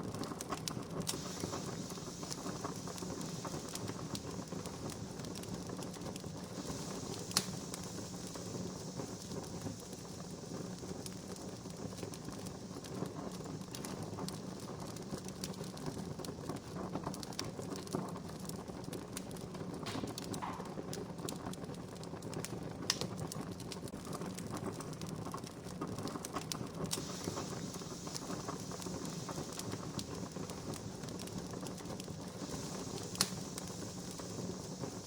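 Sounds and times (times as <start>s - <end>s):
wood campfire crackling: 0.0s - 35.0s.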